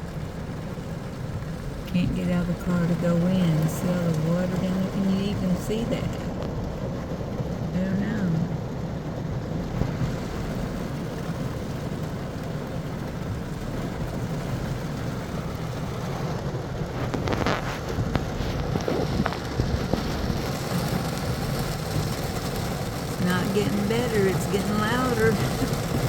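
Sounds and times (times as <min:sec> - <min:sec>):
heavy rain on car roof: 0:00.0 - 0:26.0.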